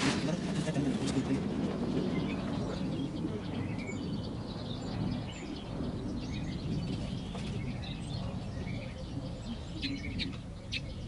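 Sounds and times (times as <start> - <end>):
low steady rumble: 0.0 - 11.0
small birds chirping: 0.6 - 11.0.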